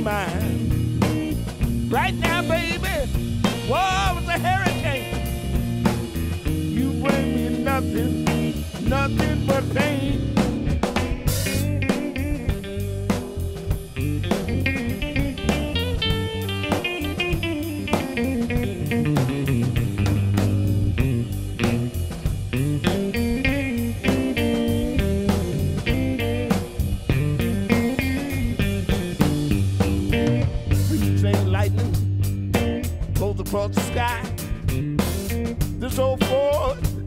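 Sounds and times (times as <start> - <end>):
blues band playing: 0.0 - 37.0
drum kit steady beat: 0.0 - 37.0
electric bass: 0.0 - 37.0
guitar lead with bending notes: 0.0 - 37.0.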